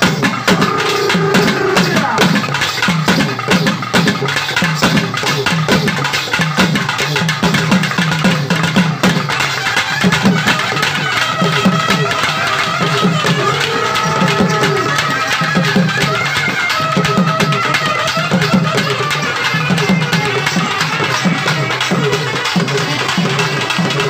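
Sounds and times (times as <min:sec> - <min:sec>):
barrel drums beaten fast: 0:00.0 - 0:24.0.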